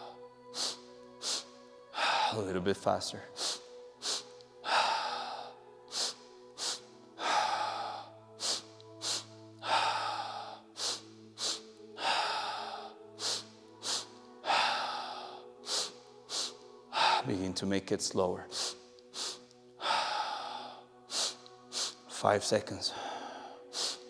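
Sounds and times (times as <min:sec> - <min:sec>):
person inhaling and exhaling: 0:00.0 - 0:02.4, 0:03.3 - 0:17.2, 0:18.5 - 0:22.1, 0:22.9 - 0:24.0
soft background music: 0:00.0 - 0:24.0.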